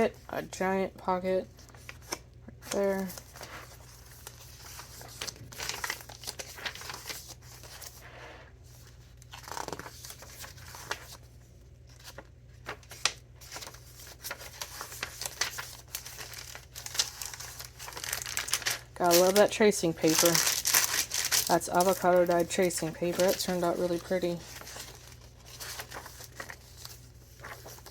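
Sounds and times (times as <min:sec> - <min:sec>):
paper pages rustling: 0:01.5 - 0:27.9.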